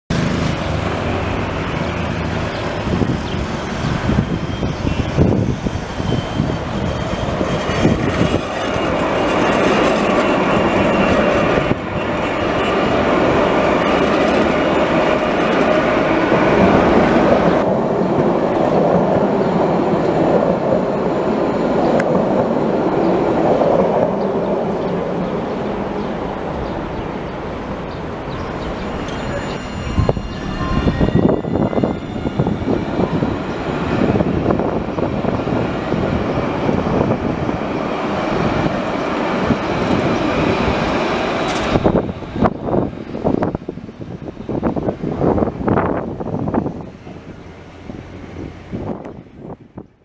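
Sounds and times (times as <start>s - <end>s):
tram wheels rumbling on rails: 0.1s - 50.0s.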